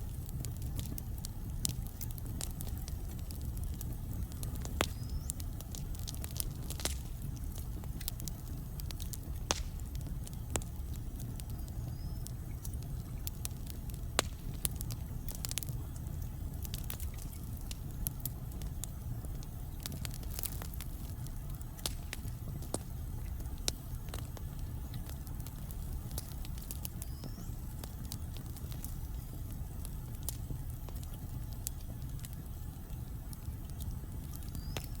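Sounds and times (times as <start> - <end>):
low rumble of flames: 0.0 - 35.0
wood fire crackling and popping: 0.0 - 35.0.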